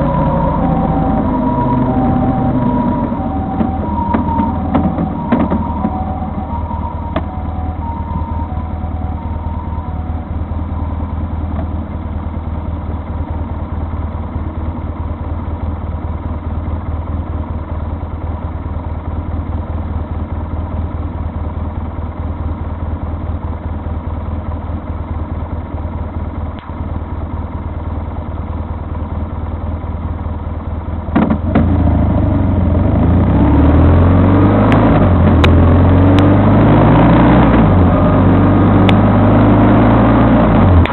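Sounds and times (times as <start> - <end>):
vehicle engine idling and revving: 0.0 - 40.9.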